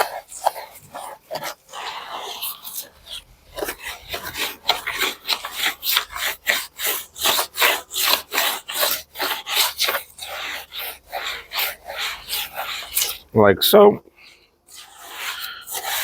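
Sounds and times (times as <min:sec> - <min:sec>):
sand scraping in resin: 0:00.0 - 0:13.4, 0:14.2 - 0:16.0.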